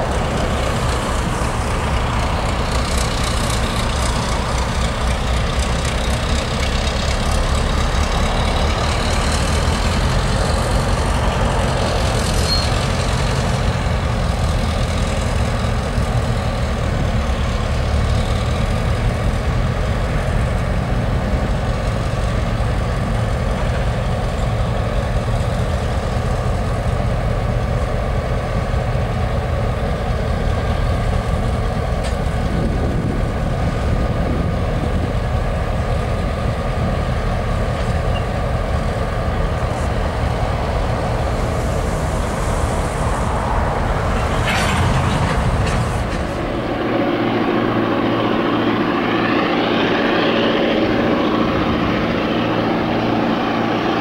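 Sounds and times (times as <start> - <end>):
distant higher-pitched engine drone: 0.0 - 54.0
heavy locomotive engine drone: 0.0 - 54.0.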